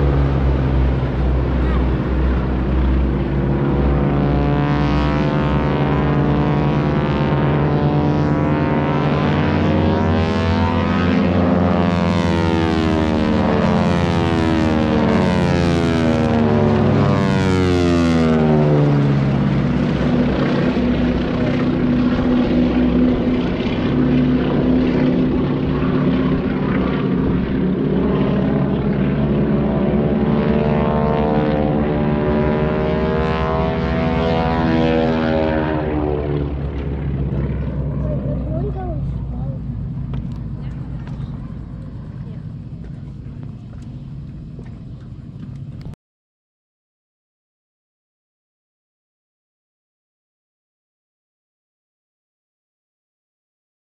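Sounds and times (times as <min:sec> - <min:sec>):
propeller planes flying past: 0:00.0 - 0:46.0.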